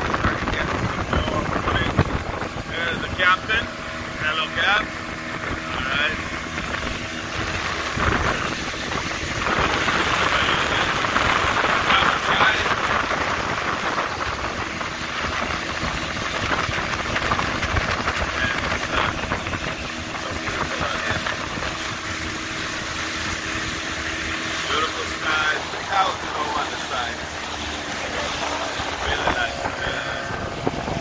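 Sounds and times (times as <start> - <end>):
motorboat engine running: 0.0 - 31.0
water rushing along hull: 0.0 - 31.0.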